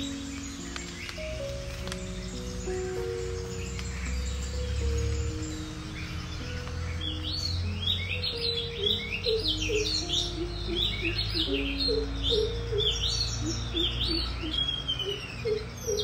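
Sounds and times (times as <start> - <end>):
forest birds chirping: 0.0 - 16.0.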